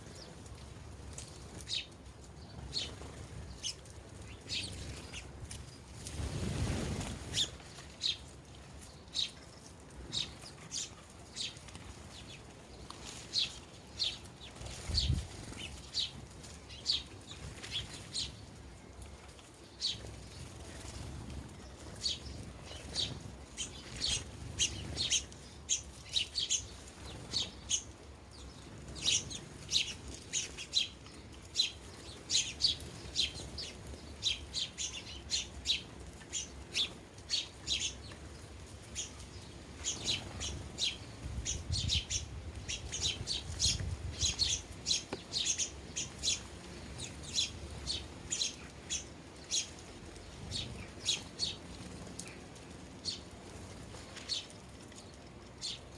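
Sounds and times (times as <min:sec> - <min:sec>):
sparrows chirping: 0:00.0 - 0:55.9.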